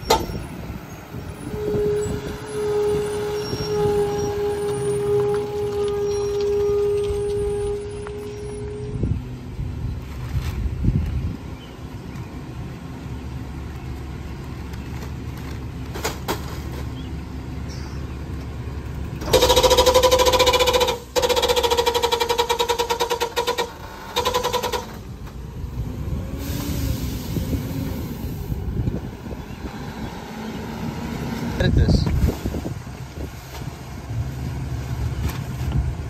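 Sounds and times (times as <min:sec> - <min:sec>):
hydraulic packer whining: 0:00.0 - 0:09.6, 0:14.7 - 0:34.0
garbage truck idling: 0:00.0 - 0:09.9, 0:11.9 - 0:31.4.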